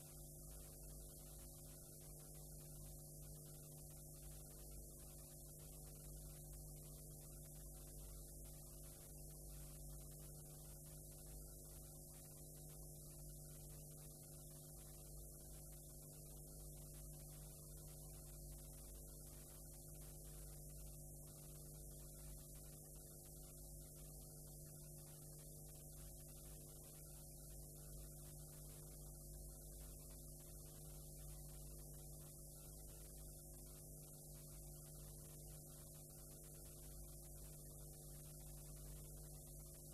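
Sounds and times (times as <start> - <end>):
faint electrical hum with hiss: 0.0 - 39.9
faint pulsing tone: 0.0 - 39.9.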